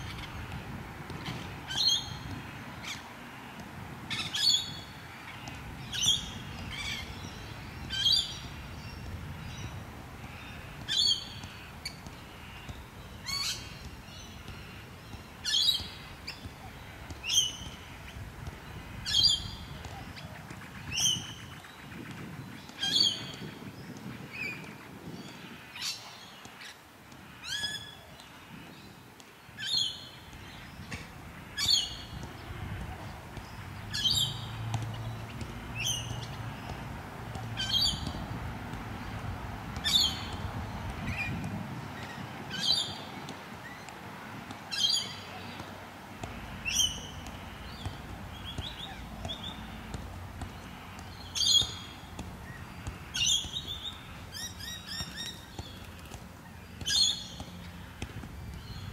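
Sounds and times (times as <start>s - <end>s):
low background noise: 0.0s - 58.9s.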